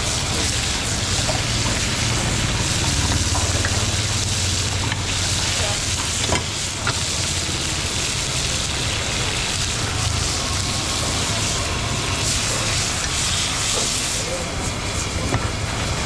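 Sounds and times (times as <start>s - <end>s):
beef sizzling: 0.0s - 16.0s
low gas burner rush: 0.0s - 16.0s.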